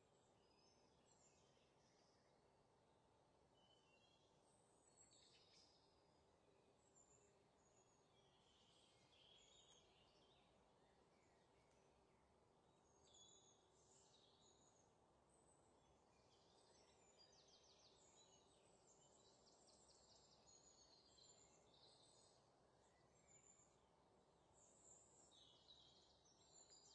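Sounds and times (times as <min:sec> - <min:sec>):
faint bird chirps and trills: 0:00.0 - 0:26.9
low steady hiss: 0:00.0 - 0:26.9.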